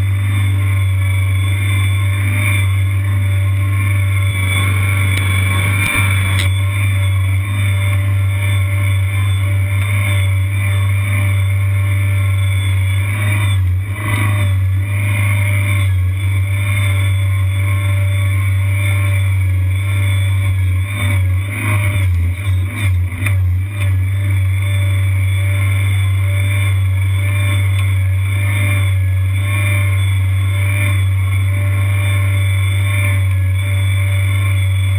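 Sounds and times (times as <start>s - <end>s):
skid steer engine running: 0.0s - 34.9s.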